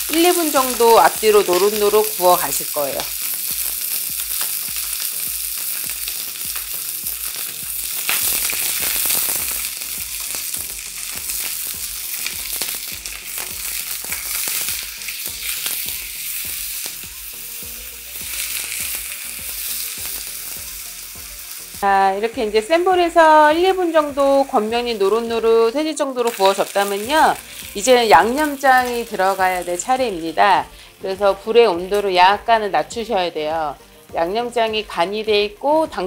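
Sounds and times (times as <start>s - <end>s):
chicken sizzling in a frying pan: 0.0s - 35.6s.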